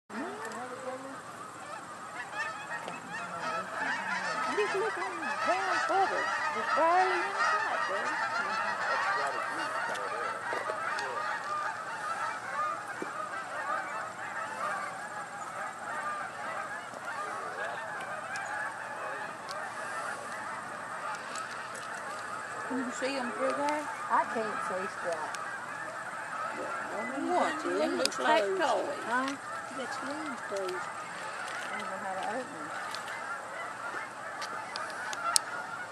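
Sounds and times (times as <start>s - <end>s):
geese honking in flight: 0.1s - 35.9s.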